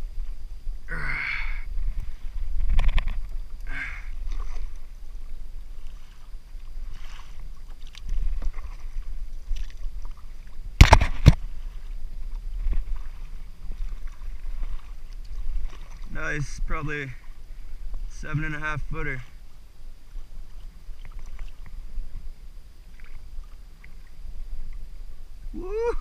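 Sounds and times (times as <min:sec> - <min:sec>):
water lapping around kayak: 0:00.0 - 0:26.0
wind rumbling on microphone: 0:00.0 - 0:26.0.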